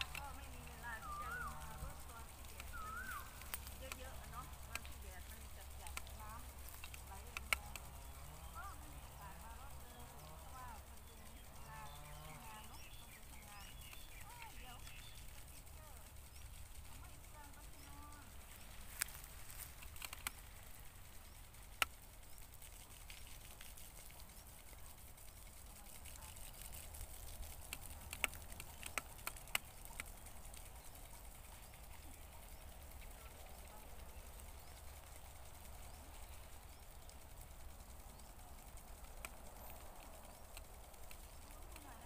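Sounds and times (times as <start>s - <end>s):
sharp clicks: 0.0s - 42.0s.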